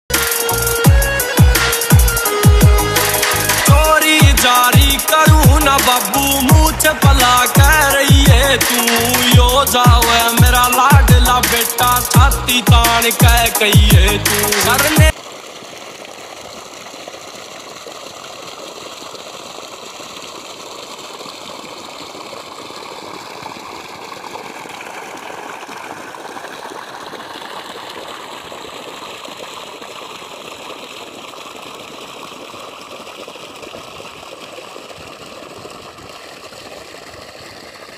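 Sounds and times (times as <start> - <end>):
water gushing from pipe: 0.1 - 37.9.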